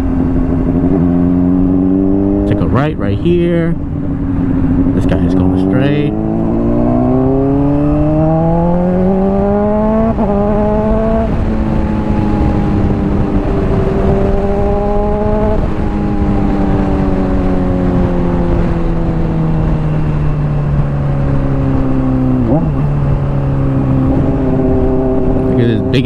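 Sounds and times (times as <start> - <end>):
wind rush on helmet: 0.0 - 2.5, 3.3 - 26.0
motorcycle engine: 0.0 - 26.0.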